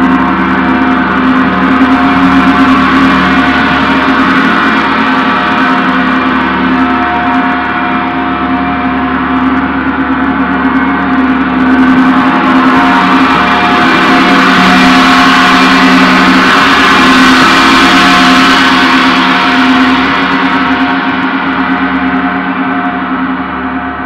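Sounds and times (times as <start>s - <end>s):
gong ringing: 0.0s - 24.0s.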